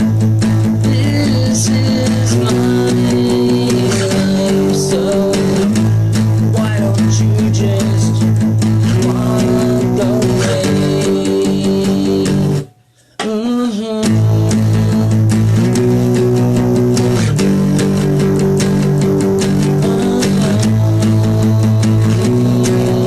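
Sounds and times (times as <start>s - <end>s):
guitar and bass playing: 0.0s - 12.8s, 14.0s - 23.0s.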